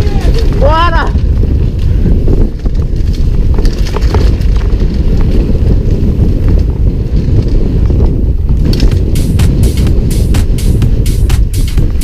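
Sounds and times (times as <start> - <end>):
bike clicks and rattles: 0.0 - 12.0
wind rumble on microphone: 0.0 - 12.0.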